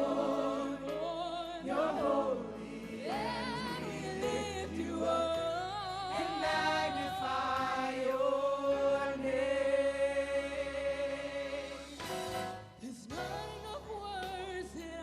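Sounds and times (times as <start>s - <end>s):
gospel singing voices: 0.0s - 15.0s.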